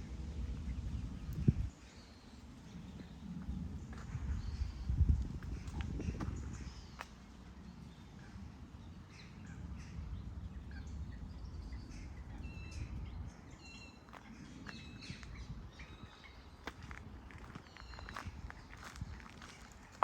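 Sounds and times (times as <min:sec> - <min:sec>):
low steady rumble: 0:00.0 - 0:20.0
small birds chirping: 0:00.2 - 0:20.0.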